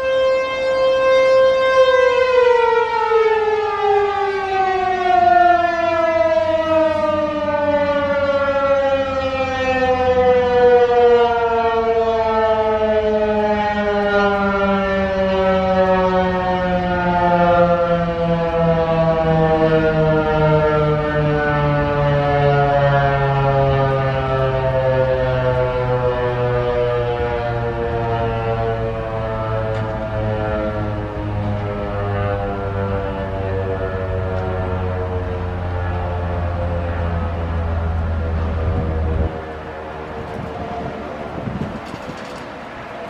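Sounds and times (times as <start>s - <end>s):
siren steady alert tone: 0.0s - 43.0s
siren winding down: 0.0s - 43.0s.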